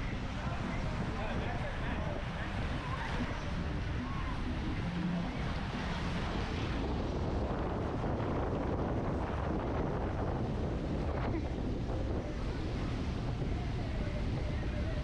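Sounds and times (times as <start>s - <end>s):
small waves breaking: 0.0s - 15.0s
wind buffeting microphone: 0.0s - 15.0s.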